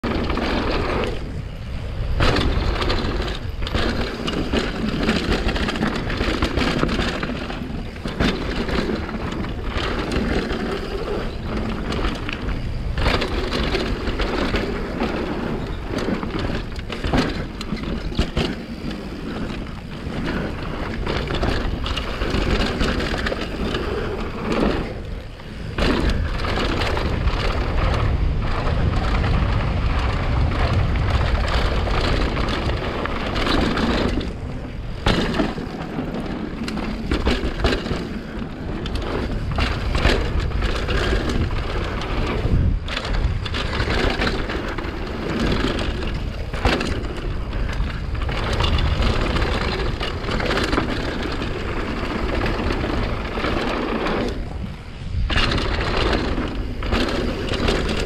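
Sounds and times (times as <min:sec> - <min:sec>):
bike clattering over bumps: 0:00.0 - 0:58.0
tyre and wind noise: 0:00.0 - 0:58.0.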